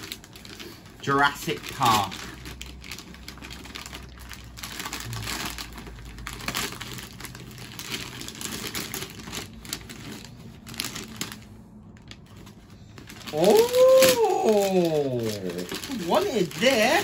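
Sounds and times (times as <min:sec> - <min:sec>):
gift wrap crinkling: 0:00.0 - 0:17.0.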